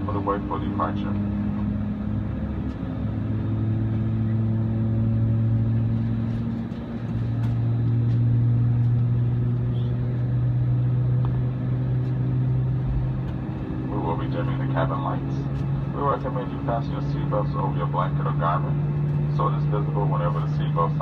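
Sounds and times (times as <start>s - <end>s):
jet engine drone in cabin: 0.0s - 21.0s.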